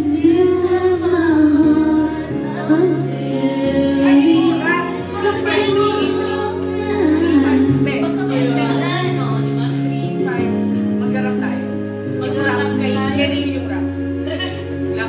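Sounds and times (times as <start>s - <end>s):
woman singing karaoke: 0.0s - 11.6s, 12.2s - 15.0s
backing track of held chords: 0.0s - 15.0s.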